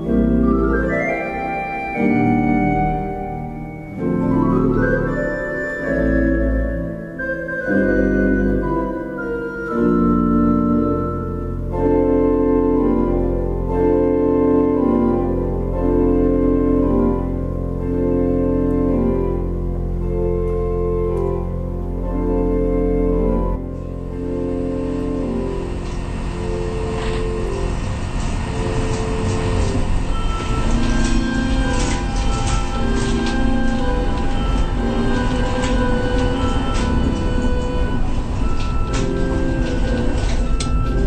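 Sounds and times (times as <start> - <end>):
organ music: 0.0 - 41.0.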